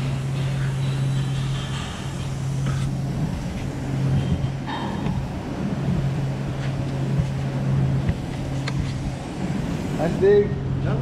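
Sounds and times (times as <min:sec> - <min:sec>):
general rumble: 0:00.0 - 0:11.0
machinery humming: 0:00.0 - 0:11.0.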